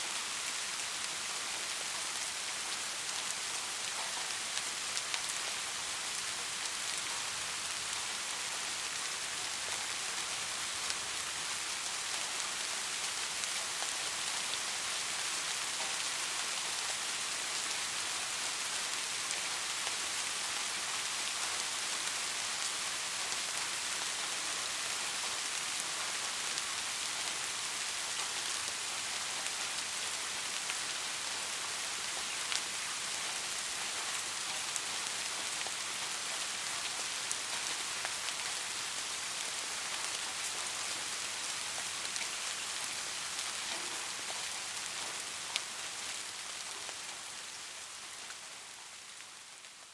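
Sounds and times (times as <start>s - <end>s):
rain pattering: 0.1s - 49.9s.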